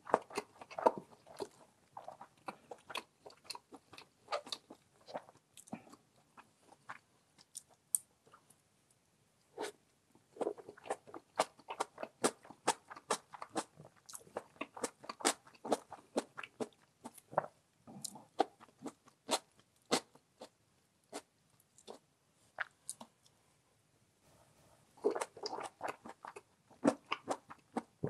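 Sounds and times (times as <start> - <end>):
soft wet chews: 0.0 - 8.6, 9.5 - 23.3, 25.0 - 28.0.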